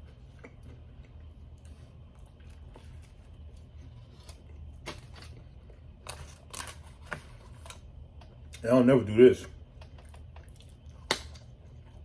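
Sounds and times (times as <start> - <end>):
person chewing: 0.0 - 8.6, 9.6 - 12.0
low steady hum: 0.0 - 12.0.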